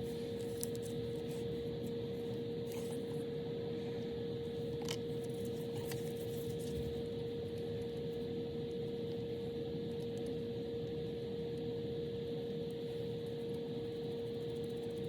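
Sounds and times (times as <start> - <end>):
machine hum with steady tone: 0.0 - 15.0.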